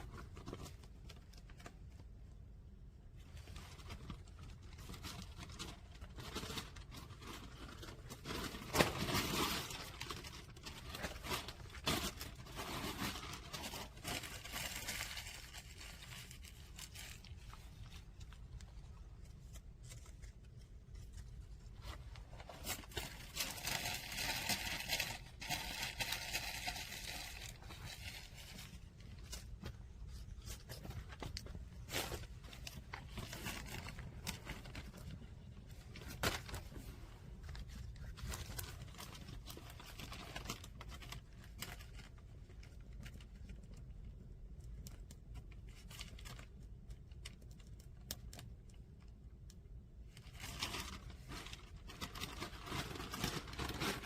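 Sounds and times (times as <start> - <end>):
paper rustling and crinkling: 0.0 - 2.2, 3.1 - 43.9, 50.1 - 54.0.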